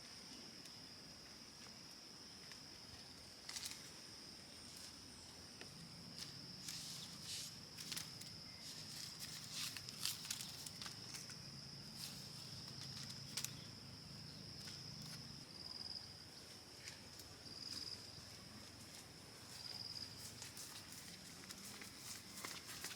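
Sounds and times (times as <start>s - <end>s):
insects trilling: 0.0s - 22.9s.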